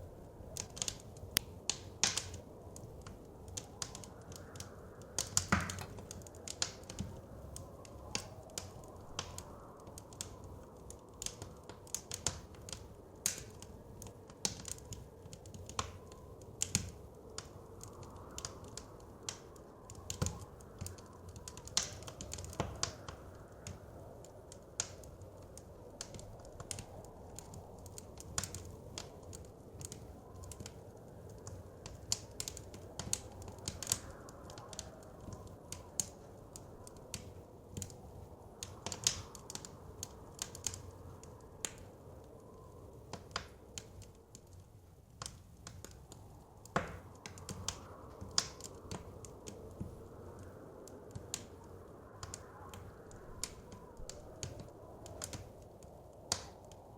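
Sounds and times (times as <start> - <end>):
blizzard wind: 0.0 - 56.9
wood fire crackling: 0.0 - 56.9.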